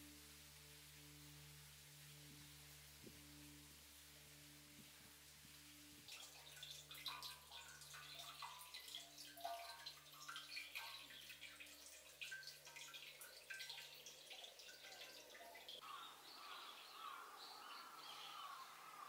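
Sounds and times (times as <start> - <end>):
low steady hum: 0.0 - 19.0
water dripping and trickling: 0.0 - 19.0.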